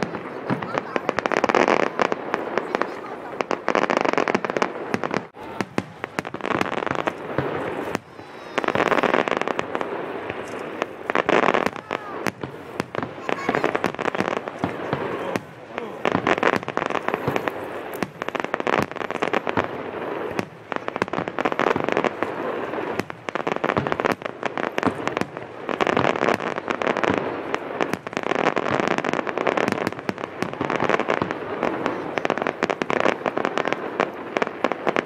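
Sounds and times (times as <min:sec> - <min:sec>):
fireworks bangs and pops: 0:00.0 - 0:35.0
fireworks crackling: 0:00.0 - 0:35.0.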